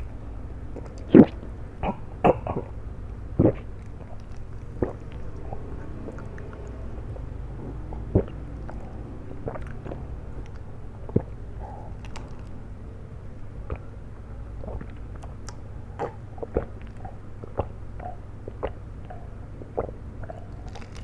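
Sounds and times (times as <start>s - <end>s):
low hum: 0.0s - 21.0s
chewing and smacking: 0.7s - 1.5s, 3.4s - 12.7s, 13.6s - 21.0s.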